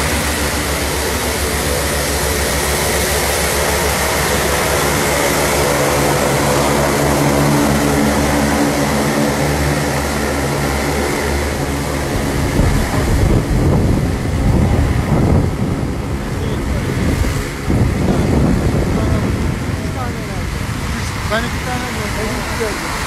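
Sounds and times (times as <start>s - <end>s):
turboprop engines humming with whine: 0.0s - 23.0s
wind buffeting microphone: 0.0s - 23.0s.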